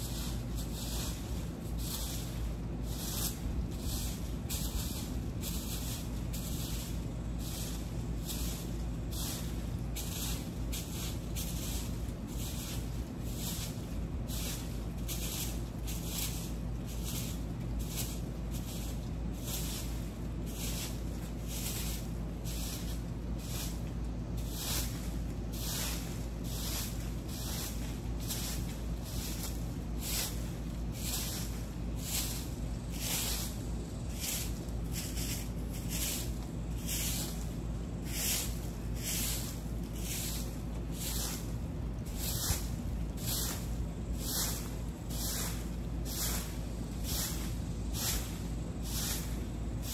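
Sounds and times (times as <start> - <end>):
broom sweeping leaves on dirt: 0.0 - 49.9.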